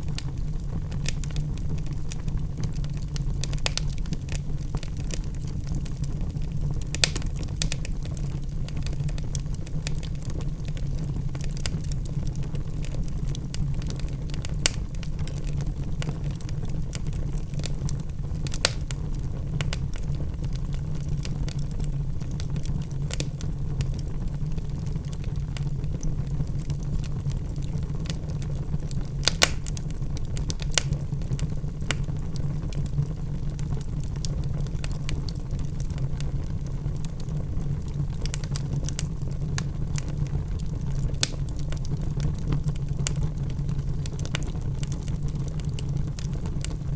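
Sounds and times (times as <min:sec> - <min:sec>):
fire crackles and pops: 0:00.0 - 0:46.9
low rumble of fire: 0:00.0 - 0:46.9.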